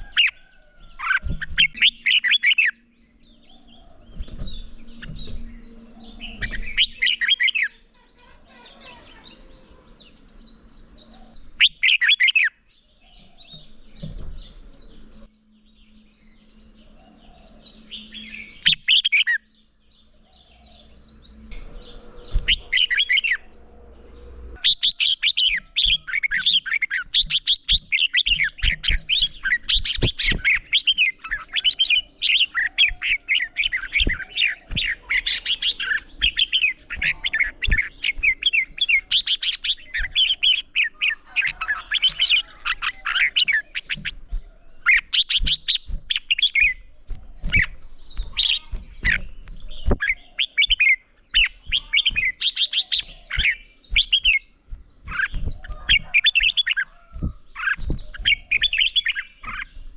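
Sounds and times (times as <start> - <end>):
bird singing chirping phrases: 0.0 - 59.9.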